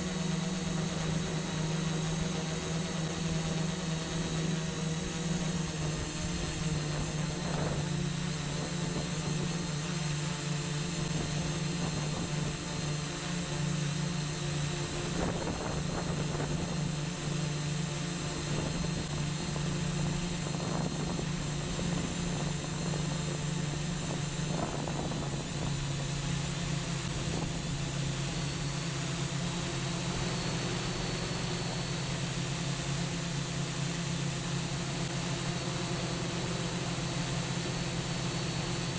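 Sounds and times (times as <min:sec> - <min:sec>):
motor high whine: 0:00.0 - 0:38.9
propeller hum: 0:00.0 - 0:38.9.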